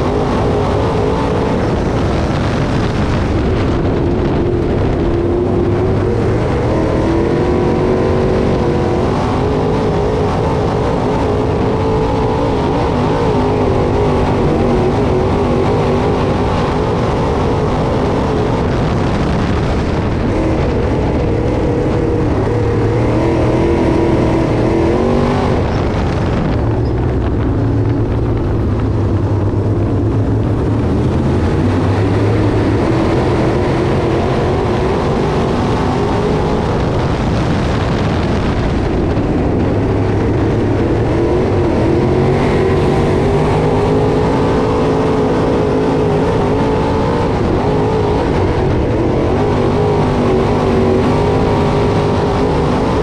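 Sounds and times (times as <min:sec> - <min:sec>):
race car engines racing: 0:00.0 - 0:53.0.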